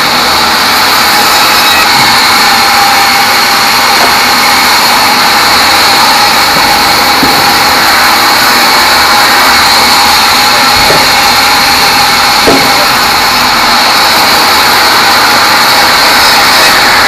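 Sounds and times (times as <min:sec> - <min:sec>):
band sawmill sawing a log: 0:00.0 - 0:17.0.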